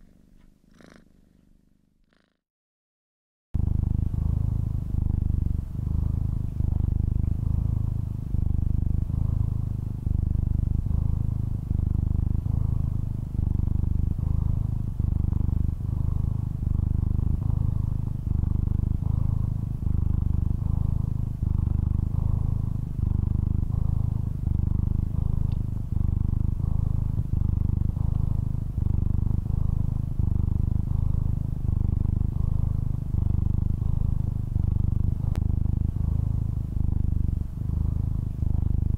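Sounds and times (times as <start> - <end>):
cat purring: 0.0 - 2.4, 3.6 - 38.9.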